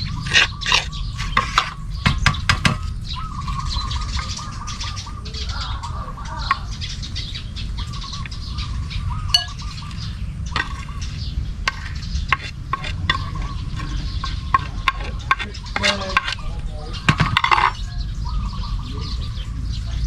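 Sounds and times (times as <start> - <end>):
birds warbling: 0.0 - 20.0.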